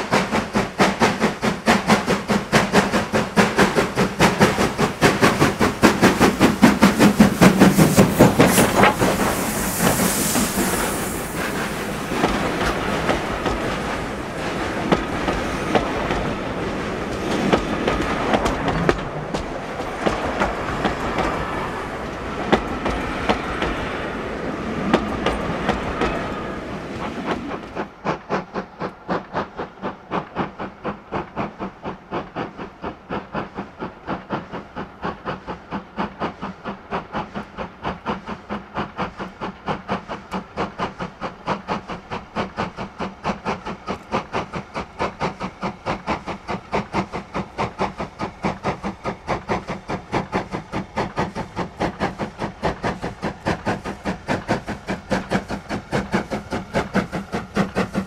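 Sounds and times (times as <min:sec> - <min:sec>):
steam hiss: 0:00.0 - 0:58.0
steam locomotive exhaust beats: 0:00.0 - 0:58.0
train wheels clattering over rail joints: 0:00.0 - 0:58.0.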